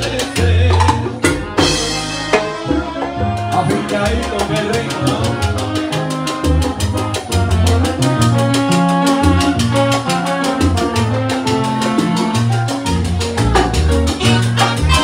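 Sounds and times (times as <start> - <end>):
bass line: 0.0 - 15.0
congas and timbales: 0.0 - 15.0
salsa band playing: 0.0 - 15.0.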